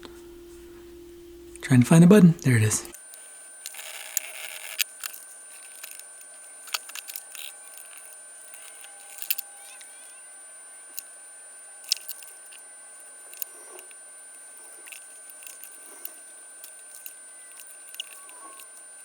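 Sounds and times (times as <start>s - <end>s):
faint steady hiss: 0.0s - 19.0s
thin high tones: 2.8s - 19.0s.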